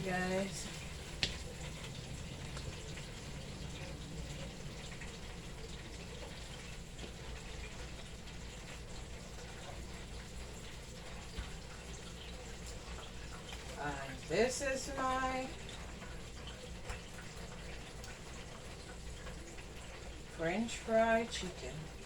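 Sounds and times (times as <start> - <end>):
electric fan blowing: 0.0 - 18.0
chicken frying in hot oil: 0.0 - 22.0.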